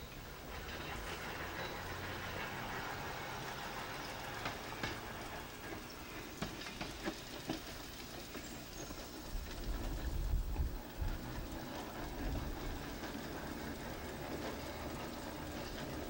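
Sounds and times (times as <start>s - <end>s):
streetcar running on track: 0.0s - 16.0s
wheels clicking on rails: 0.0s - 16.0s.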